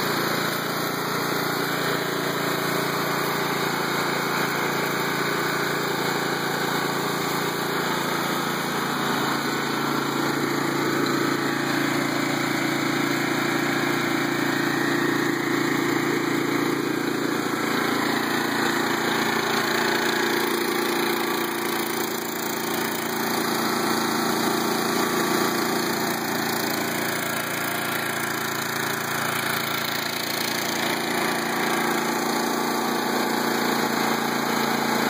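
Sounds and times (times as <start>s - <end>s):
mower engine idling: 0.0s - 35.0s.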